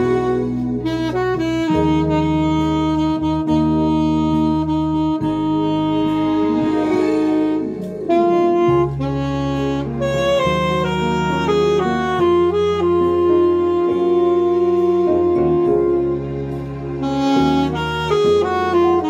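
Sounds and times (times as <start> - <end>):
alto saxophone ballad melody: 0.0 - 19.0
sustained bass notes: 0.0 - 19.0.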